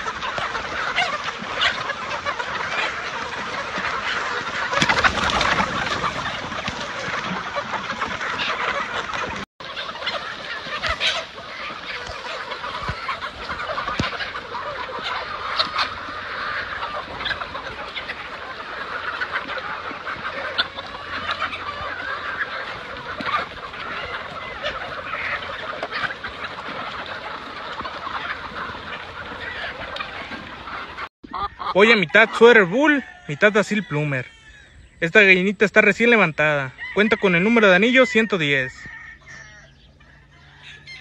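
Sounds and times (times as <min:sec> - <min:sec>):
flock of chickens squawking: 0:00.0 - 0:41.0.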